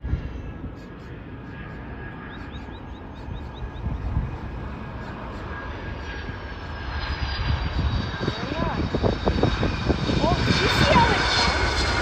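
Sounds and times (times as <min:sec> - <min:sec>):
distant jet engines whining: 0:00.0 - 0:12.0
low wind rumble: 0:00.0 - 0:12.0.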